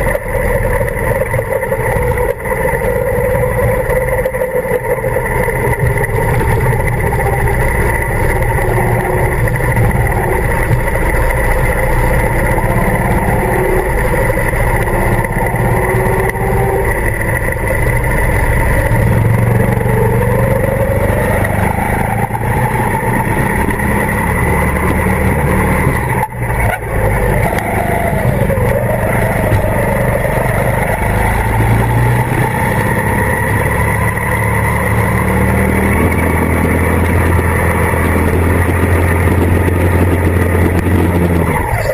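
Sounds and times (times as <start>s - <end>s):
go-kart engine running: 0.0s - 41.9s.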